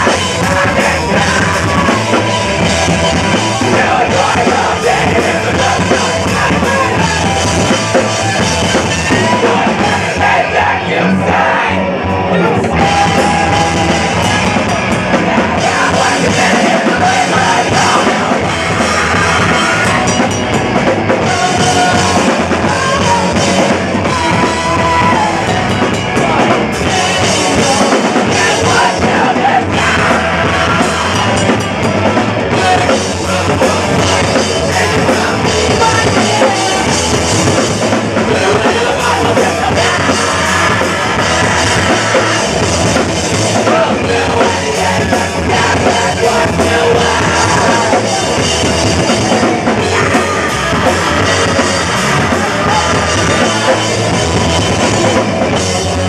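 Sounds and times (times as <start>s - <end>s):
rock band playing loud: 0.0s - 56.0s.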